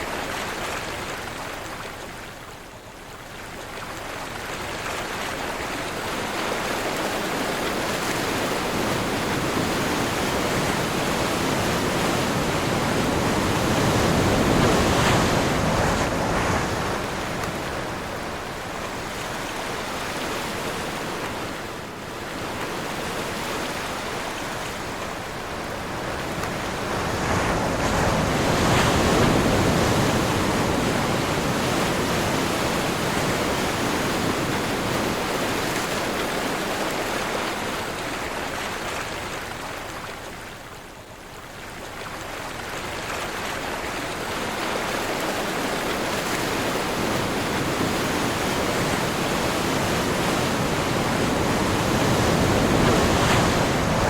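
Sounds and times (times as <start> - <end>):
waves breaking: 3.5 - 54.0.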